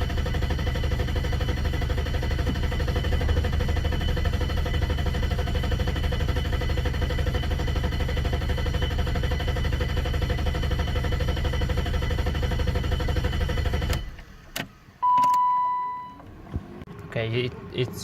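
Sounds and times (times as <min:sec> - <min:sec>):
car engine idling then stalling: 0:00.0 - 0:15.0.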